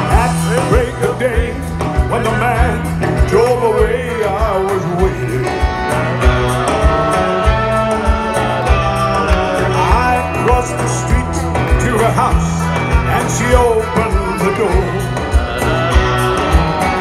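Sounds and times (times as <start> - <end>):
drum beat: 0.0 - 17.0
live band music: 0.0 - 17.0
person singing: 0.0 - 17.0.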